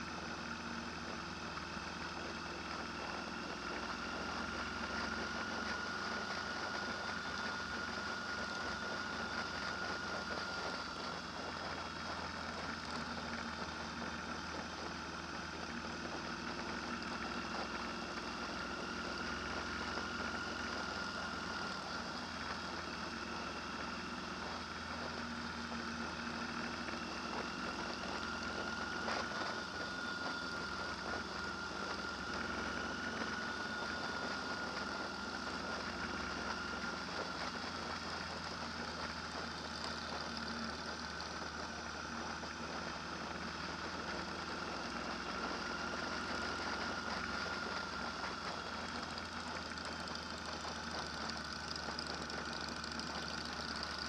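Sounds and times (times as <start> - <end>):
engine running with high whine: 0.0 - 54.0.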